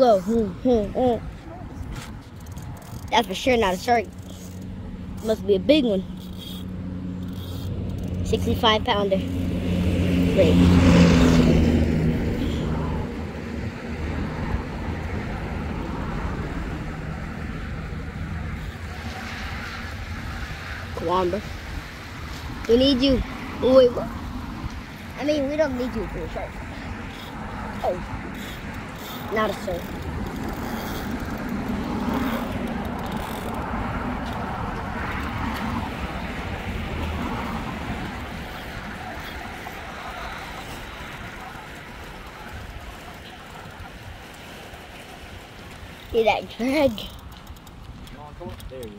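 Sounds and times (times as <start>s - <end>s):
road traffic rumble: 0.0s - 48.9s
vehicle passing: 0.0s - 48.9s.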